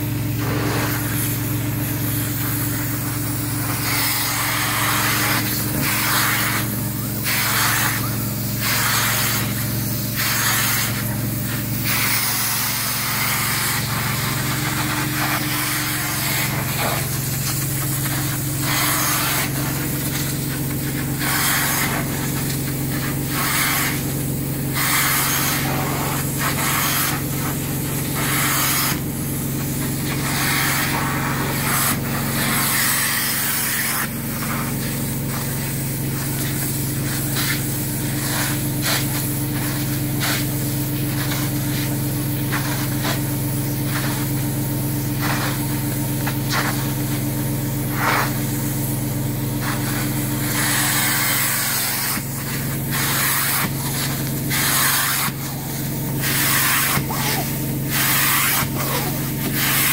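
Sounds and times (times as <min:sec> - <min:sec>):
spraying and sucking hiss: 0:00.0 - 0:59.9.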